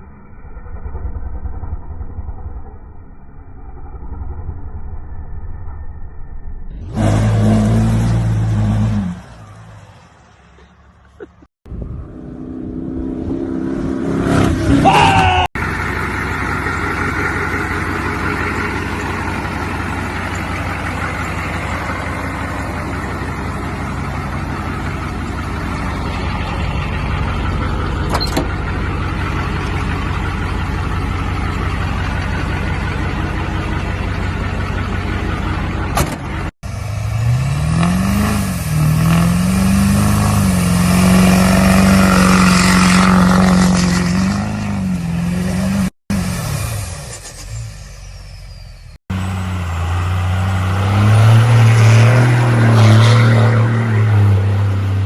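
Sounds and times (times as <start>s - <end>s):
truck engine rumbling: 0.0s - 55.0s
engine revving: 6.7s - 9.8s, 11.8s - 47.8s, 49.0s - 55.0s.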